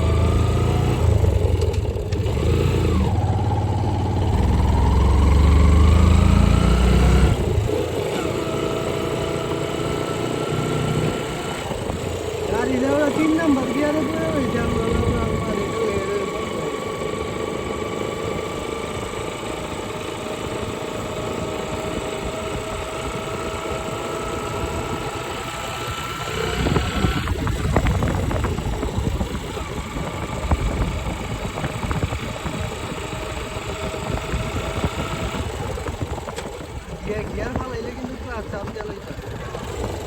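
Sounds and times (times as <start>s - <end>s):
rough engine rumble: 0.0s - 40.0s
vehicle engine drone with whine: 0.0s - 40.0s.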